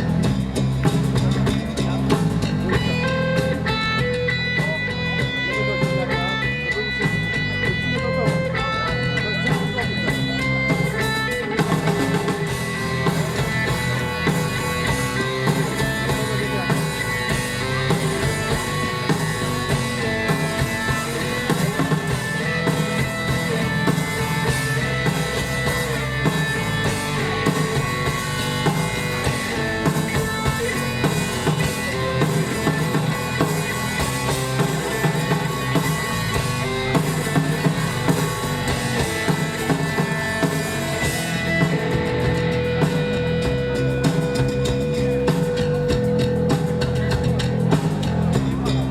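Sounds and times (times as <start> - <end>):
drum kit beat: 0.0 - 48.9
live rock band playing: 0.0 - 48.9.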